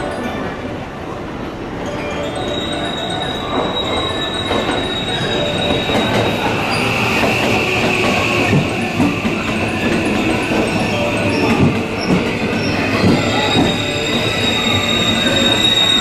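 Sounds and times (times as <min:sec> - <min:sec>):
electric train slowing: 0:00.0 - 0:16.0
high wheel squeal: 0:02.4 - 0:16.0.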